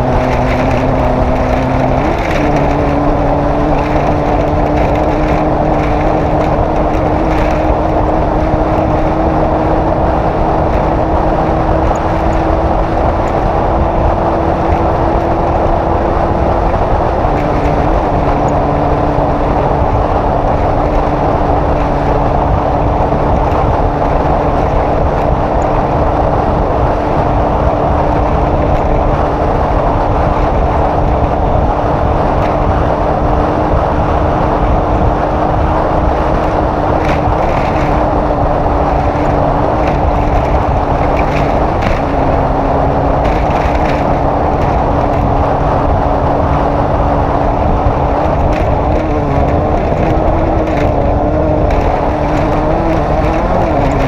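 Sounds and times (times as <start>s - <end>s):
race vehicle engine running hard: 0.0s - 54.0s
road and wind noise: 0.0s - 54.0s.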